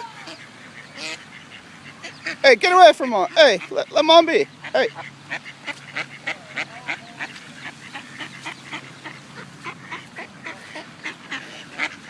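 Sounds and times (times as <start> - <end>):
waterfowl honking and quacking: 0.0 - 12.0.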